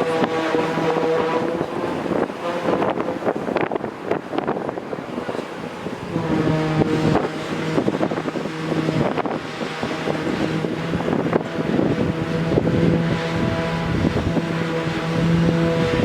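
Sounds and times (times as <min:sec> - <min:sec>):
engine humming: 0:00.0 - 0:16.0
wind noise on microphone: 0:00.0 - 0:16.0.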